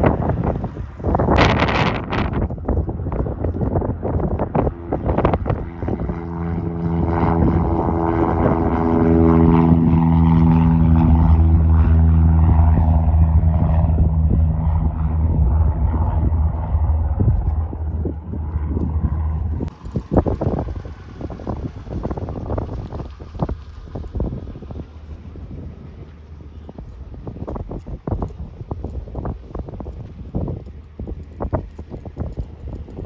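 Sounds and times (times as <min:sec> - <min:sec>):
light airplane engine droning: 0:00.0 - 0:33.0
wind buffeting microphone: 0:00.0 - 0:33.0.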